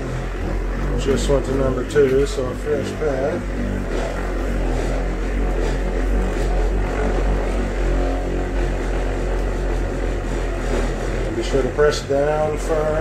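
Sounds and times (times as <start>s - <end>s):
electric polisher motor drone: 0.0s - 13.0s.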